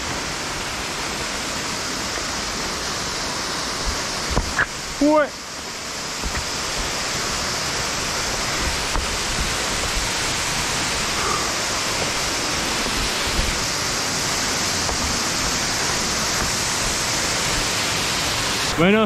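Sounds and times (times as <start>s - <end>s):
waterfall and stream rushing: 0.0s - 19.0s.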